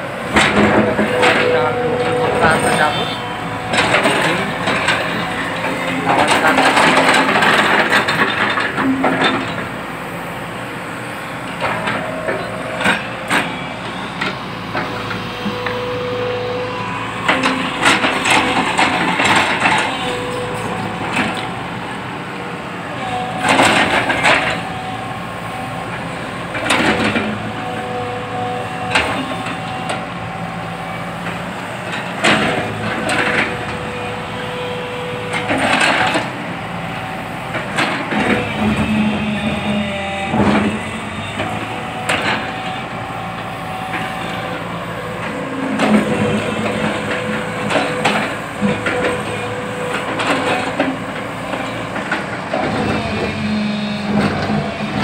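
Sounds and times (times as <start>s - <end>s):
excavator engine whining: 0.0s - 55.0s.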